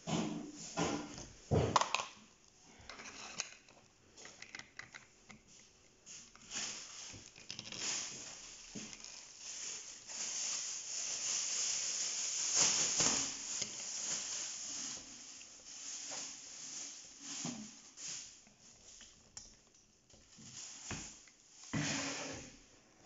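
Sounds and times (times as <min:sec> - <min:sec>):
plastic packaging rustling: 0:01.2 - 0:21.8.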